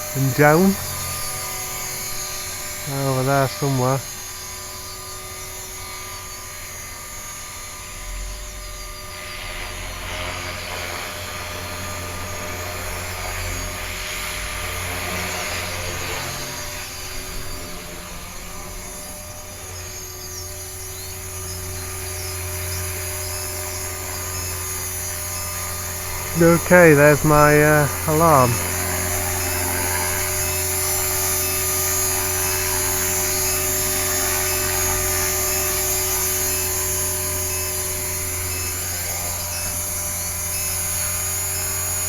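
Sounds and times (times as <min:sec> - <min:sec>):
rc helicopter motor whine: 0:00.0 - 0:26.4, 0:28.6 - 0:42.0.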